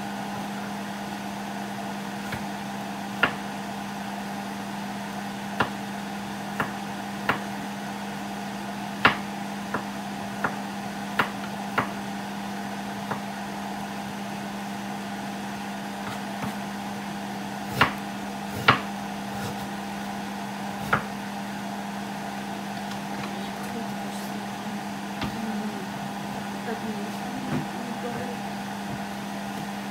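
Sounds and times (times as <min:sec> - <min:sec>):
low mechanical hum: 0:00.0 - 0:29.9.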